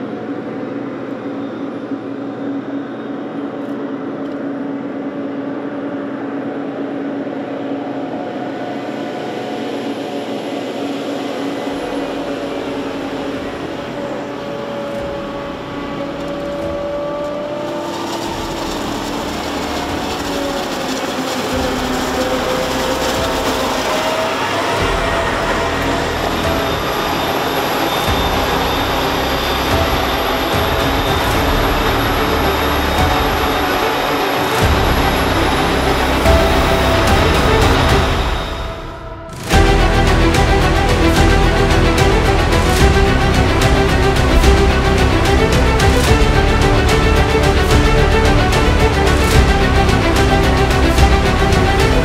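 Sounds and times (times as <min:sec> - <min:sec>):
heavy machinery engines: 0:00.0 - 0:52.0.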